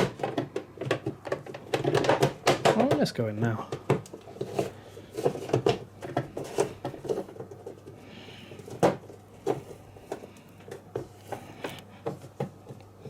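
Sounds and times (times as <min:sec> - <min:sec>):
plastic filter clicking and knocking: 0:00.0 - 0:08.0, 0:08.6 - 0:12.9.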